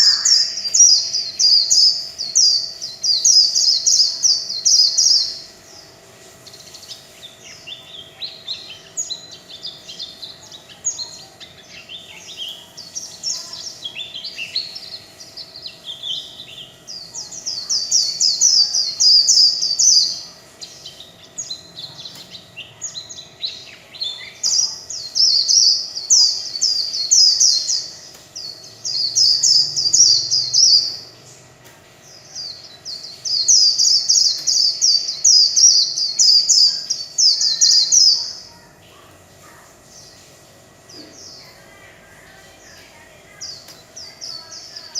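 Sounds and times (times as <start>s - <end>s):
bird warbling and trilling: 0.0s - 5.5s, 6.4s - 31.2s, 32.1s - 44.9s
faint steady hum: 0.0s - 44.9s.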